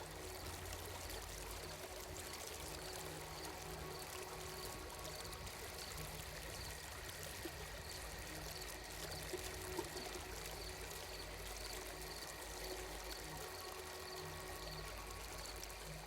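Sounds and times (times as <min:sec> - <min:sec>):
trickling water: 0:00.0 - 0:16.0.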